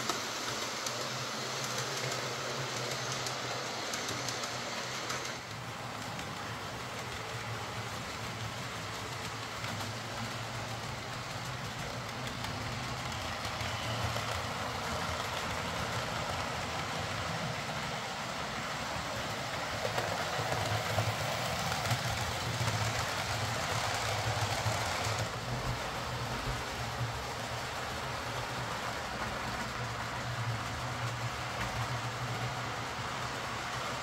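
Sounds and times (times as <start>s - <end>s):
wheels rolling on track: 0.0s - 34.0s.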